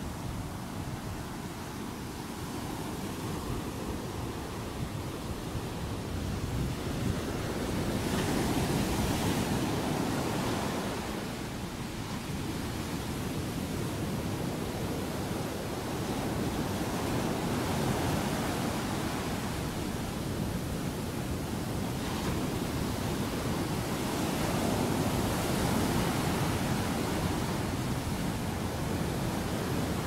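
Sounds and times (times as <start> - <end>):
surf breaking on a beach: 0.0 - 30.0.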